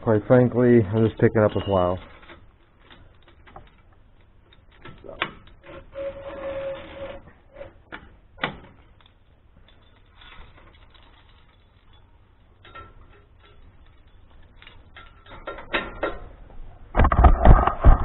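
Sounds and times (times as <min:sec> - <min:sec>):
winch cable clicking and rattling: 0:00.9 - 0:16.3.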